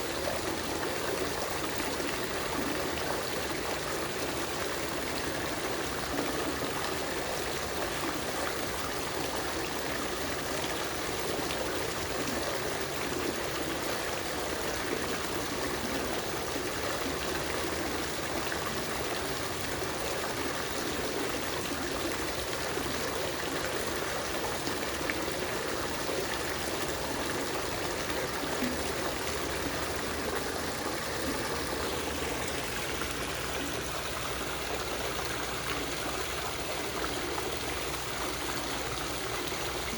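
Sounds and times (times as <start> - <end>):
fountain water trickling and splashing: 0.0 - 39.9.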